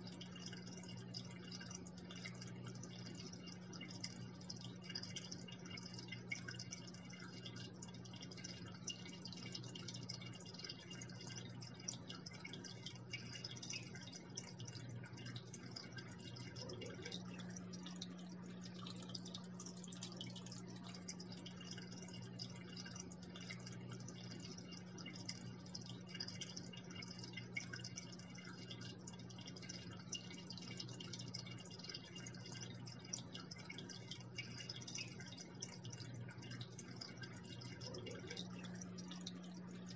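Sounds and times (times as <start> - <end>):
steady low hum: 0.0 - 39.9
water trickling into aquarium: 0.0 - 39.9.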